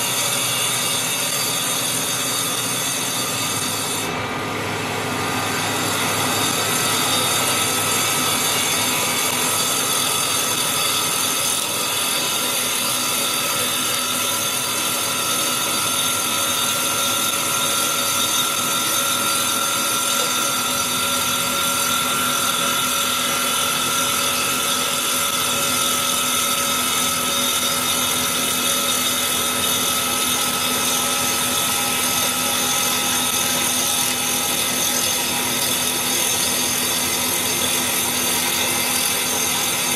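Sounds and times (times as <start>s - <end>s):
lathe cutter cutting wood: 0.0s - 39.9s.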